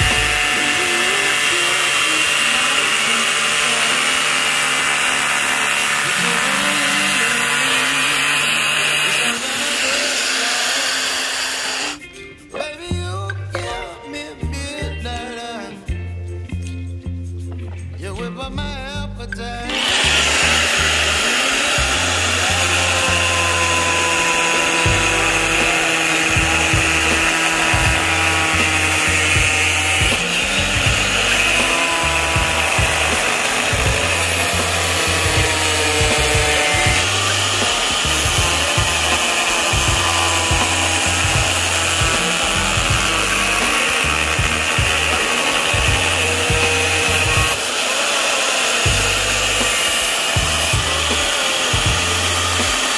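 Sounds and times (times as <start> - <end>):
angle grinder cutting plastic: 0.0 - 12.7, 19.4 - 52.9.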